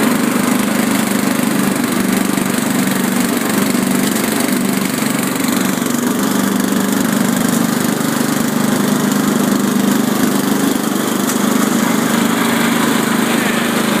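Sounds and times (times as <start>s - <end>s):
riding lawn mower engine: 0.0s - 14.0s.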